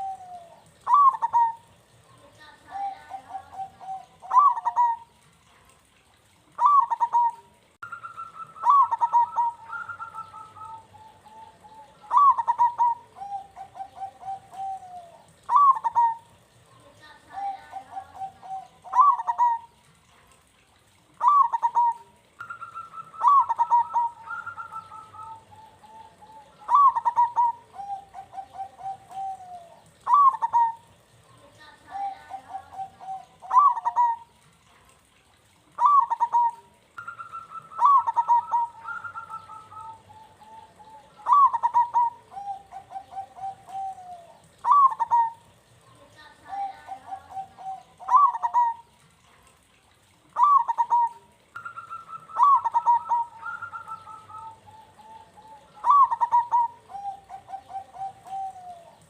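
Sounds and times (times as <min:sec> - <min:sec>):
dove cooing: 0:00.0 - 0:34.5, 0:35.7 - 0:49.4, 0:50.2 - 0:59.0.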